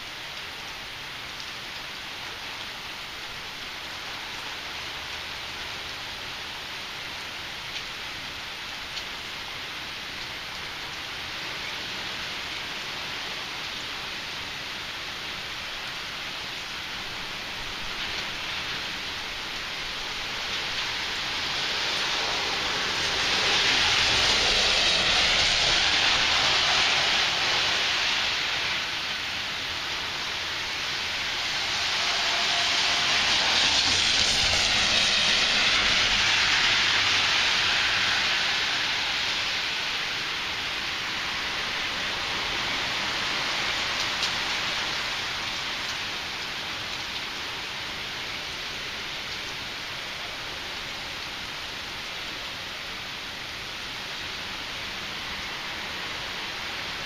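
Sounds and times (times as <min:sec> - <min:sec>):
heavy rain in strong wind: 0:00.0 - 0:57.0.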